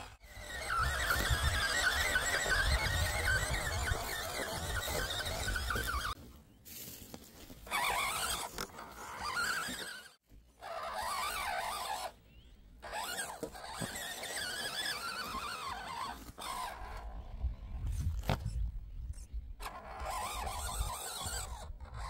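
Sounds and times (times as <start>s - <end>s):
small electric motor whine: 0.0s - 6.2s, 7.5s - 22.0s.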